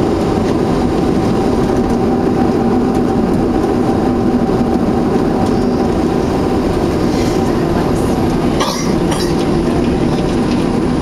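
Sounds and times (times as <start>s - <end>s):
jet engines humming at low thrust: 0.0s - 11.0s.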